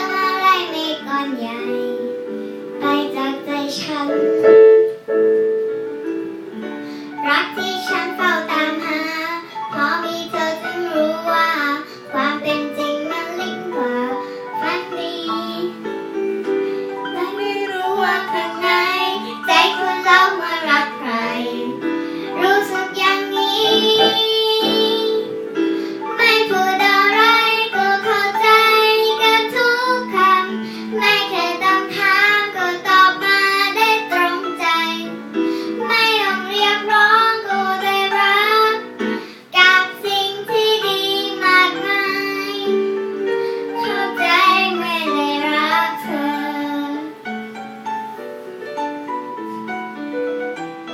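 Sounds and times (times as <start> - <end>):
girl singing: 0.0 - 5.0, 6.5 - 47.3
piano chords: 0.0 - 50.9.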